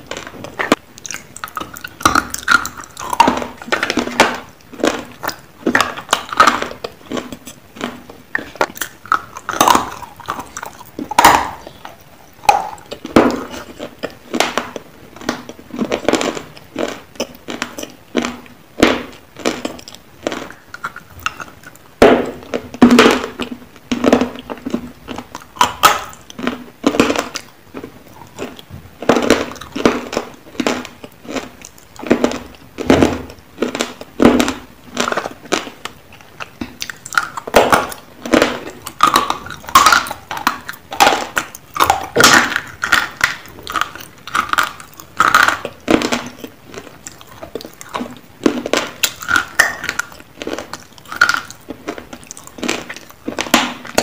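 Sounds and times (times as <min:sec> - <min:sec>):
person crunching brittle food: 0:00.0 - 0:54.0.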